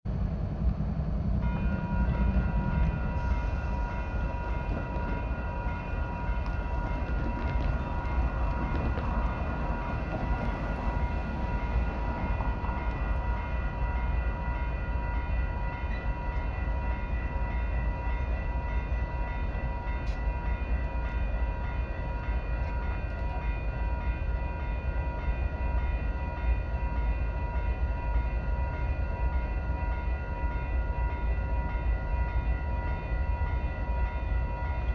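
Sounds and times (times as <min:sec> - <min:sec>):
passenger train rumbling: 0:00.1 - 0:34.9.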